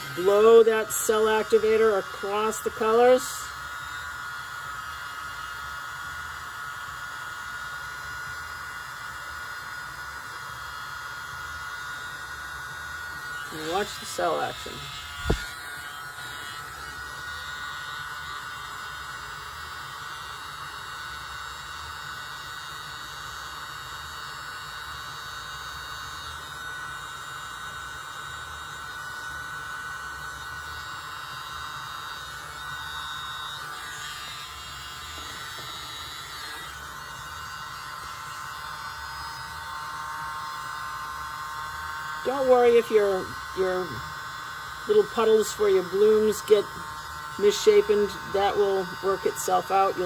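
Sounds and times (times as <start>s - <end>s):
mini leaf blower whine: 0.0s - 50.0s.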